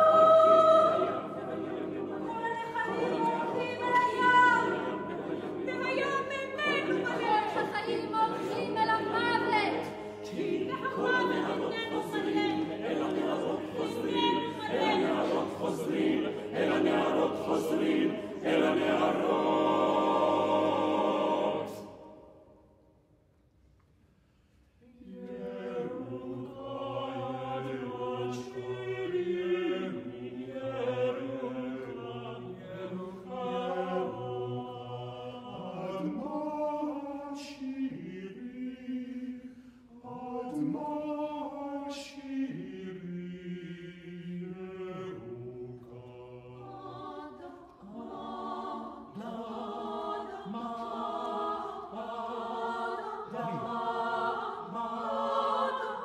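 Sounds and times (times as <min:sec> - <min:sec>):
a cappella choir singing: 0:00.0 - 0:23.0, 0:24.8 - 0:56.0.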